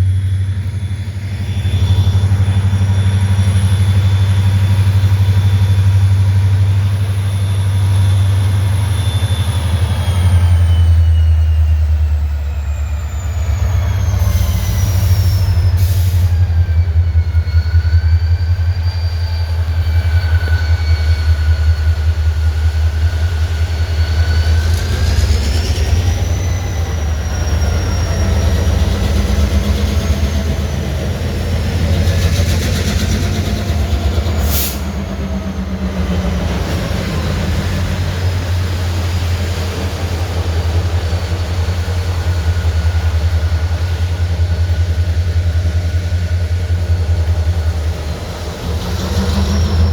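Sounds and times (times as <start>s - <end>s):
steel wheels squealing on rails: 0.0s - 49.9s
train rumbling on tracks: 0.0s - 49.9s.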